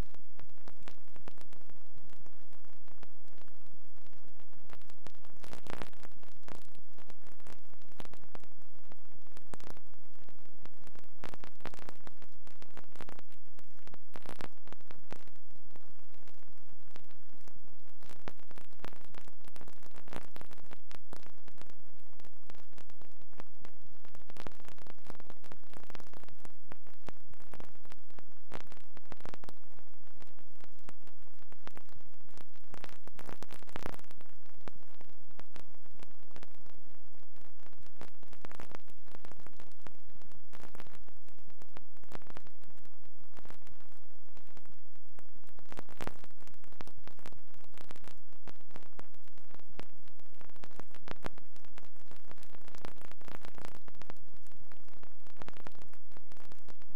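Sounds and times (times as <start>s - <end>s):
film soundtrack hiss and crackles: 0.0s - 56.9s.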